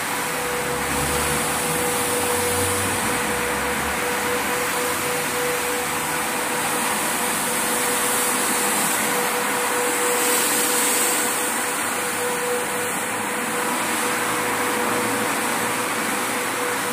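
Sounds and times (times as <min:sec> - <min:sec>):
carpet washing machine running: 0:00.0 - 0:16.9.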